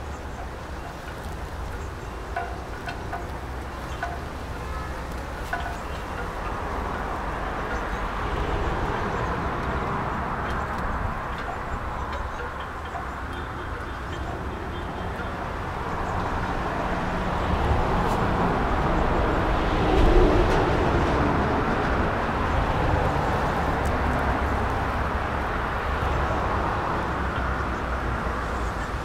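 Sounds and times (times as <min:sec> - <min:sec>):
road vehicle passing: 0:00.0 - 0:29.0.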